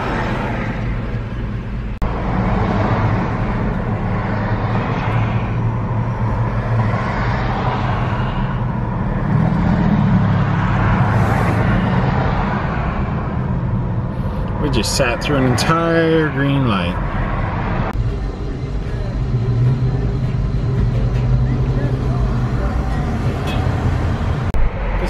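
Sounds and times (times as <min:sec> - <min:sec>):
car engine hum: 0:00.0 - 0:25.0
road noise: 0:00.0 - 0:25.0.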